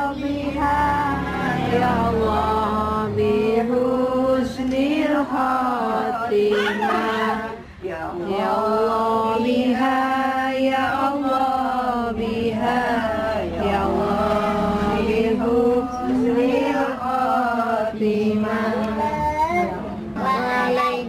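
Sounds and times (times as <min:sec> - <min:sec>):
group of voices chanting prayer: 0:00.0 - 0:21.0.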